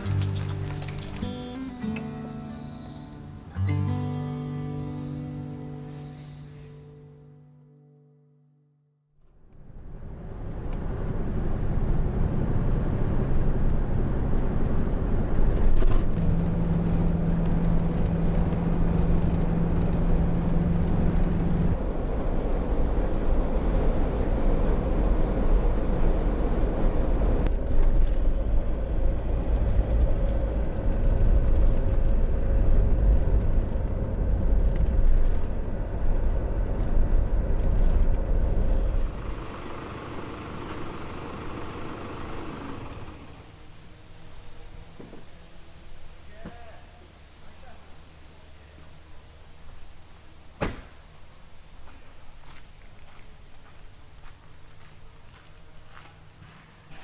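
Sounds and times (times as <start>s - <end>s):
vehicle rumbling: 0.0s - 6.8s, 9.2s - 57.0s.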